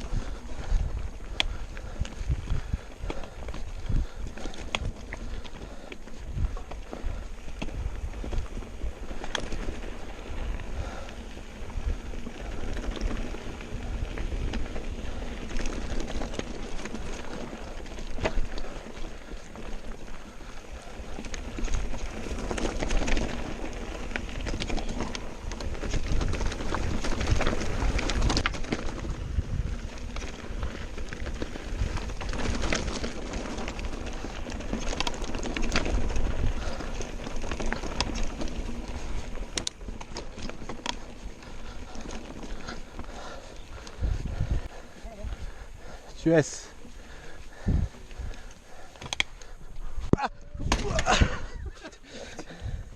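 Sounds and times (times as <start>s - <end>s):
tyres crunching over stones: 0.0s - 45.6s
bike rattling over bumps: 0.0s - 52.9s
wind buffeting microphone: 0.0s - 52.9s.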